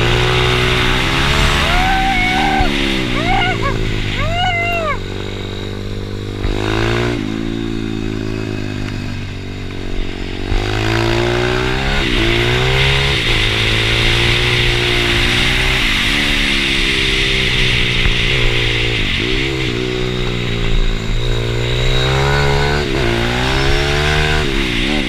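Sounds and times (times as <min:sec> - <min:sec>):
motorbike engine running hard: 0:00.0 - 0:25.0.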